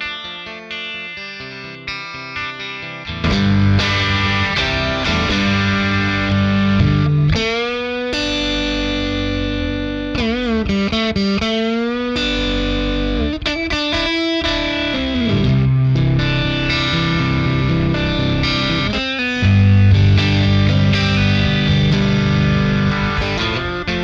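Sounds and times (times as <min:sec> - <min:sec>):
overdriven electric guitar notes: 0:00.0 - 0:24.0.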